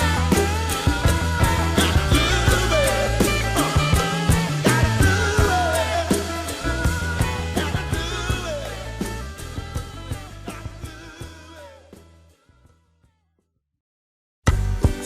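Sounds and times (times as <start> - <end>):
rock-soul song: 0.0 - 12.1.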